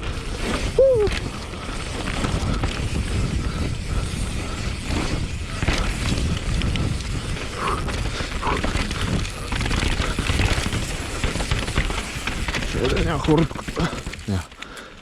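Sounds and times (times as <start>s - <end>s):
mountain bike rumble and rattle: 0.0s - 15.0s.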